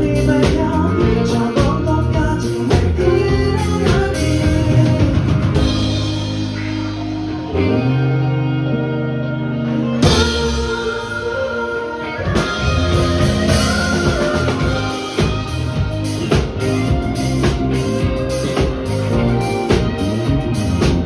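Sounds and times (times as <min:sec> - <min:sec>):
drum kit beat: 0:00.0 - 0:07.7, 0:10.0 - 0:21.0
electric guitar chords: 0:00.0 - 0:21.0.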